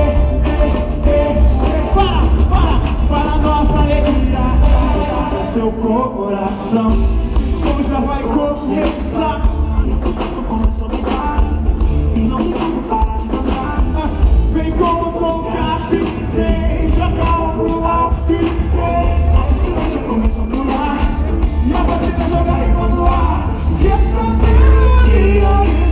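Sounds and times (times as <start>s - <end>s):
drums: 0.0s - 25.9s
gospel band playing: 0.0s - 25.9s
heavy bass: 0.0s - 25.9s
person singing: 0.0s - 25.9s.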